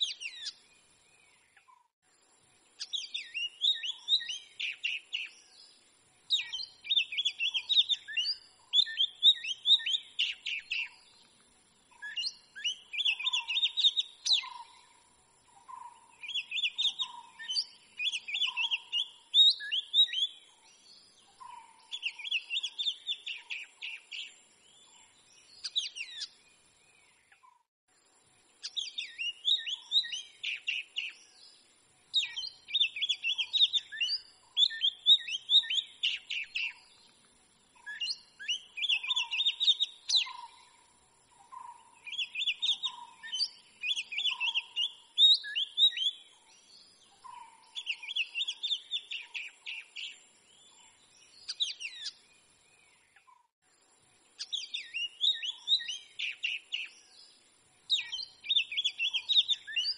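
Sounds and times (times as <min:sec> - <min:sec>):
bird singing chirps and whistles: 0:00.0 - 0:00.8, 0:02.8 - 0:11.2, 0:11.9 - 0:14.9, 0:15.6 - 0:26.5, 0:28.6 - 0:37.1, 0:37.8 - 0:40.8, 0:41.4 - 0:53.5, 0:54.4 - 0:59.9.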